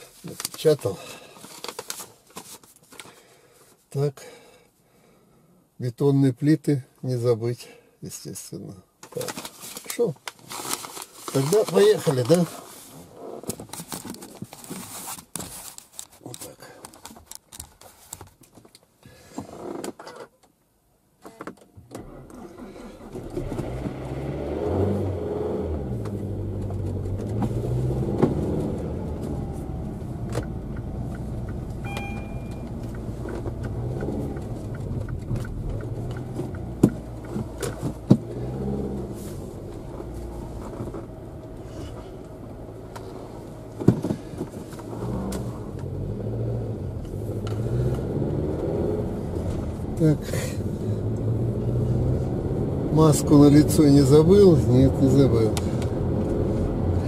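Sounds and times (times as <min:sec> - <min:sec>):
car engine and road noise: 0:09.0 - 0:18.8, 0:19.6 - 0:57.0.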